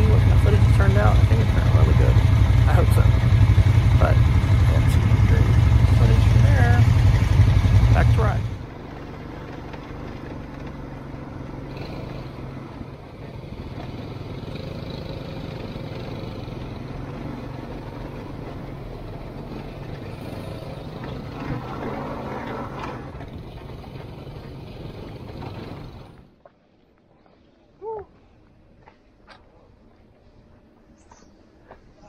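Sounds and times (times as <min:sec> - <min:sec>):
quad bike engine droning: 0:00.0 - 0:26.3.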